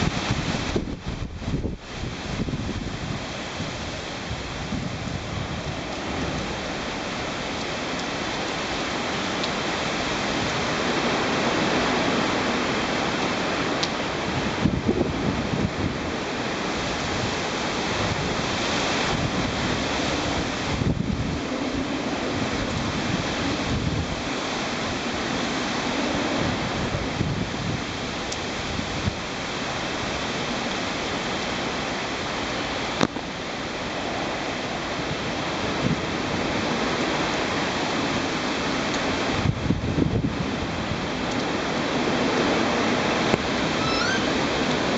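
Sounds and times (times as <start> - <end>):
wind buffeting microphone: 0.0 - 30.4, 34.9 - 44.9
storm wind and rain: 0.0 - 44.9.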